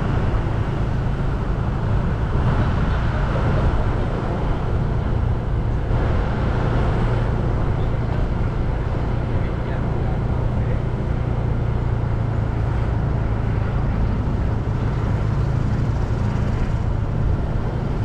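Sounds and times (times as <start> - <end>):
vehicle engine and tyre rumble: 0.0 - 18.0.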